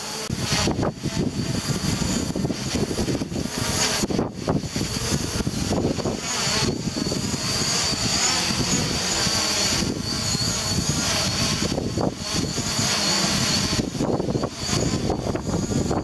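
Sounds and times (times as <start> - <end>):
drone propellers whining: 0.0 - 16.0
wind rumble on microphone: 0.2 - 16.0.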